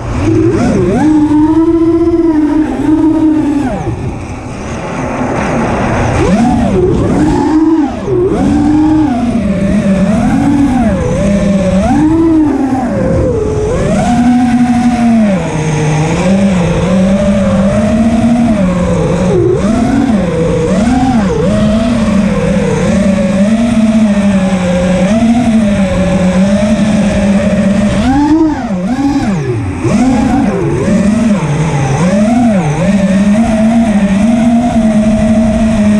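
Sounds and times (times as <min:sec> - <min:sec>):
drone motors whining: 0:00.0 - 0:35.9.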